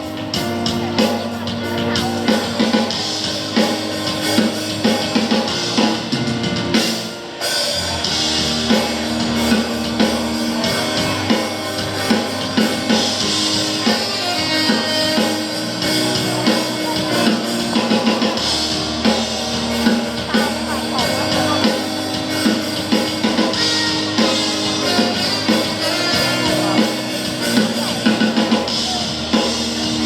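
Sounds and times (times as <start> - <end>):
drum kit beat: 0.0 - 30.0
guitar: 0.0 - 30.0
live band playing: 0.0 - 30.0.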